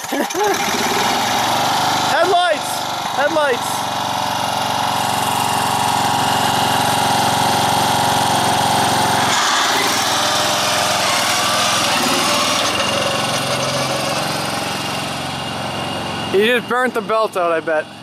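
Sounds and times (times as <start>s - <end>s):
small engine revving: 0.0s - 18.0s.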